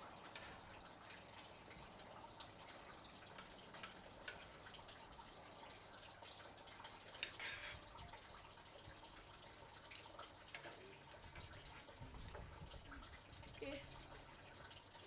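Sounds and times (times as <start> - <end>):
water dripping: 0.0 - 15.0.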